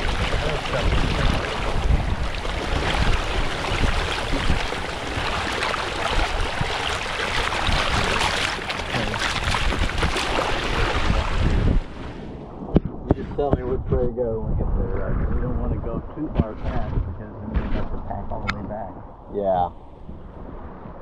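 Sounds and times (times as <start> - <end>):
water rushing along hull: 0.0 - 18.6
wind rumbling on microphone: 0.0 - 21.0.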